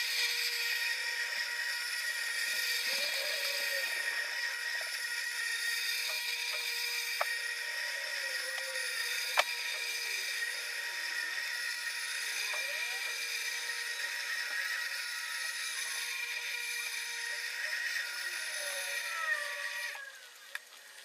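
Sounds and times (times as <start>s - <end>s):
muffled electric lawnmower humming: 0.0s - 20.1s.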